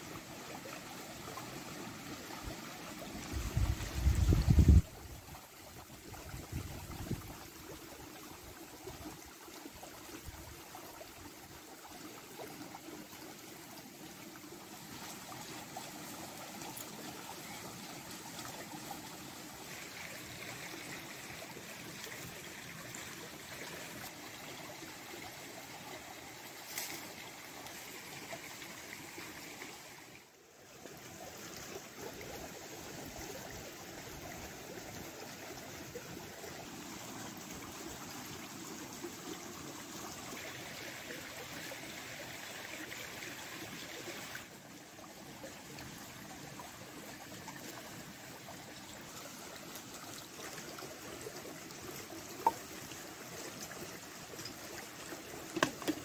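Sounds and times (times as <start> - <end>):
stream running: 0.0 - 56.0.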